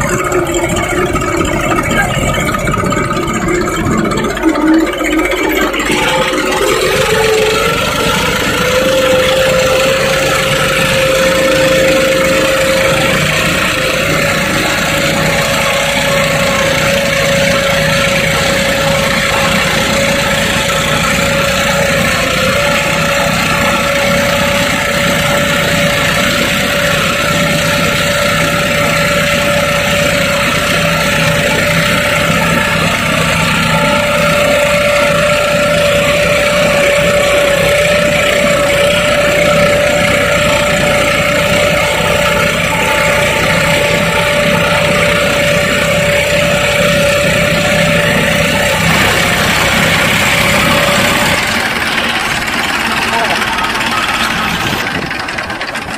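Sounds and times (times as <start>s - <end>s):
engine whine: 0.0s - 55.9s
tractor engine droning: 0.0s - 55.9s.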